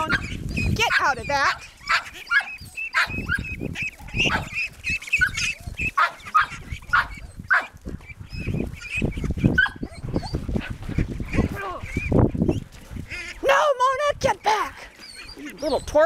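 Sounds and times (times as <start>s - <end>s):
young ducks calling rapidly: 0.0s - 16.0s.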